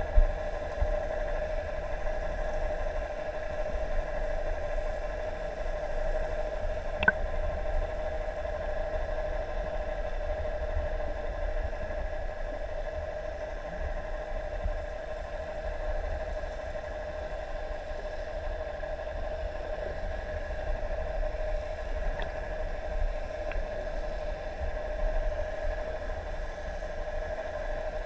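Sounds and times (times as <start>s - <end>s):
underwater engine hum: 0.0s - 28.0s.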